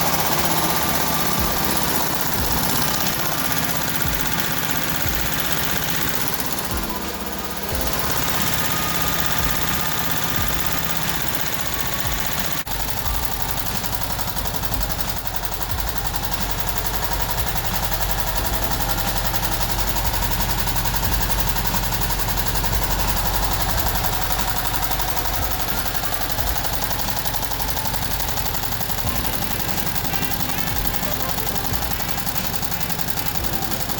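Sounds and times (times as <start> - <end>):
car engine clattering: 0.0 - 33.9.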